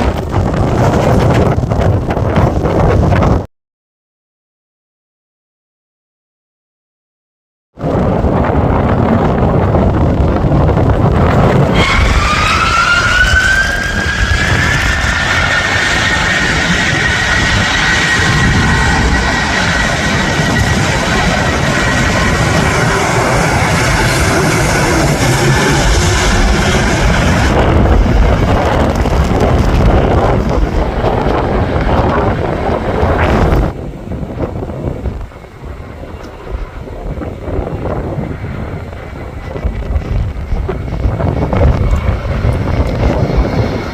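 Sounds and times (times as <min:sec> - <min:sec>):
wind rumbling on microphone: 0:00.0 - 0:03.5, 0:07.8 - 0:43.9
jet engine whine: 0:07.8 - 0:43.9.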